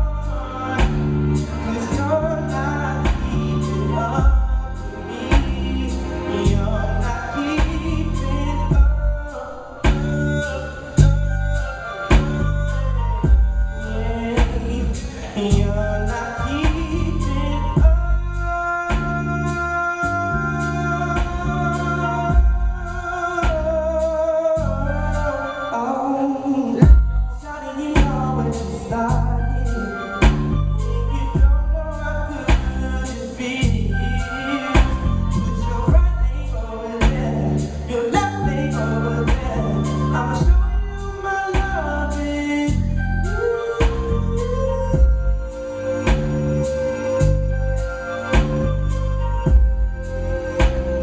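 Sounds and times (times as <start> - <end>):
live band playing: 0.0 - 51.0
person singing: 0.0 - 51.0.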